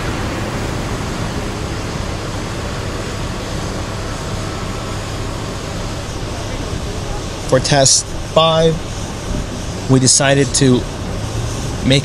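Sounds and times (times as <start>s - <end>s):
fire truck engine hum: 0.0s - 12.0s
water spraying onto road: 0.0s - 12.0s.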